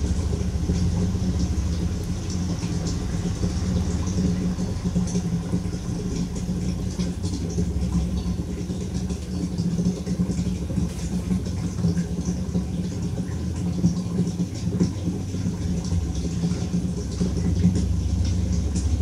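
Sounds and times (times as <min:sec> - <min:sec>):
motor humming with faint rattle: 0:00.0 - 0:19.0.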